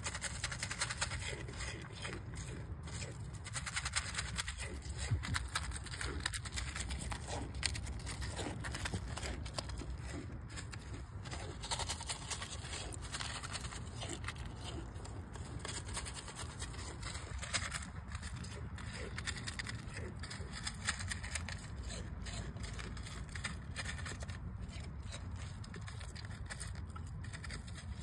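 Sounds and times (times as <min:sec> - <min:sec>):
goat kid suckling wet clicks: 0:00.0 - 0:28.0.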